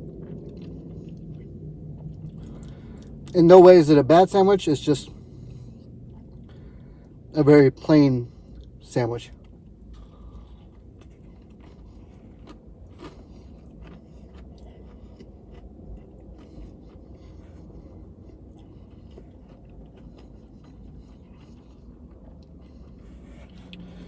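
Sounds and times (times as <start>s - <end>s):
person chewing crunchy food: 0.0s - 7.3s, 8.2s - 24.0s
low hum: 0.0s - 24.0s.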